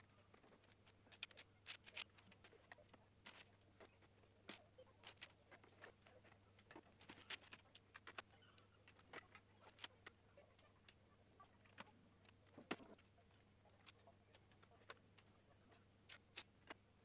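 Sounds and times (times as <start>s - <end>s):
plastic bricks clicking: 0.3s - 15.3s.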